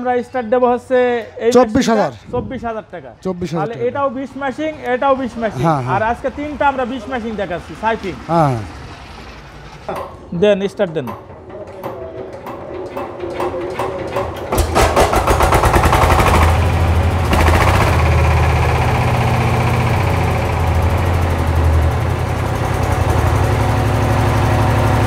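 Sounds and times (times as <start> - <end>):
diesel engine starting and running: 3.5 - 25.0.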